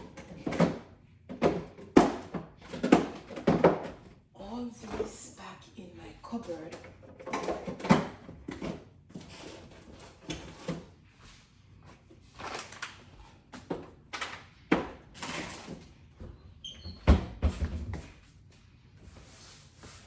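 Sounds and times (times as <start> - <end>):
kitchen items knocking and clattering: 0.0 - 5.4, 6.3 - 11.0, 11.8 - 18.2.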